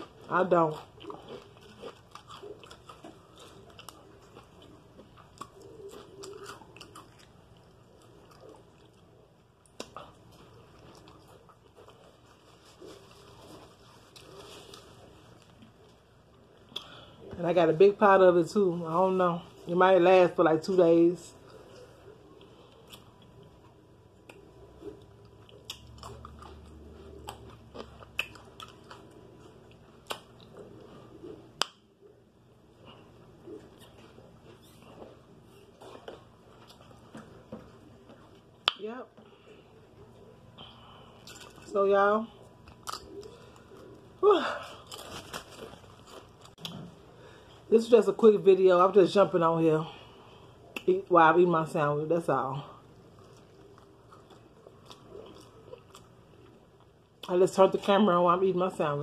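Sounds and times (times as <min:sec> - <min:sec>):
person chewing sandwich: 0:00.0 - 0:17.4, 0:21.4 - 0:41.7, 0:42.4 - 0:47.7, 0:52.8 - 0:57.3.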